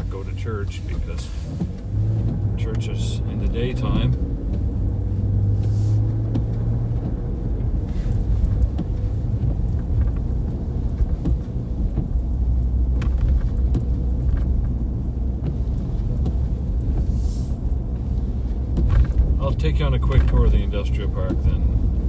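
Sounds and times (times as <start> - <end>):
car driving interior rumble: 0.0 - 22.0
faint ticks and swishes: 0.0 - 22.0.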